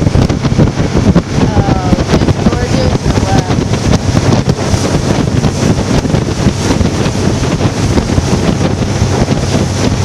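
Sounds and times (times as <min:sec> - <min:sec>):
boat running noise: 0:00.0 - 0:10.0
water rushing: 0:00.0 - 0:10.0
wind buffeting the microphone: 0:00.0 - 0:10.0.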